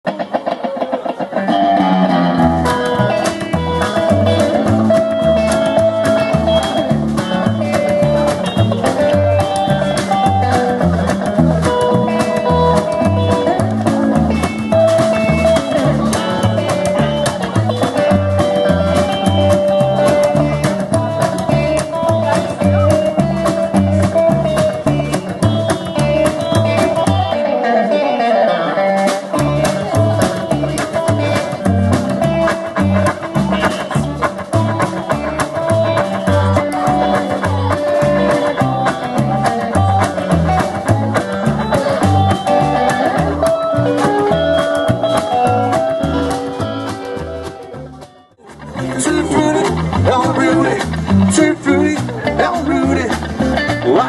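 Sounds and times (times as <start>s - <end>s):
guitar-led rock and roll music: 0.0s - 54.0s.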